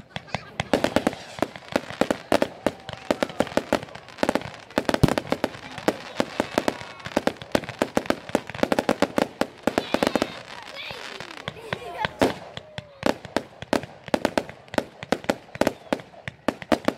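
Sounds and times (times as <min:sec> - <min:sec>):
fireworks bangs and crackles: 0:00.0 - 0:16.9.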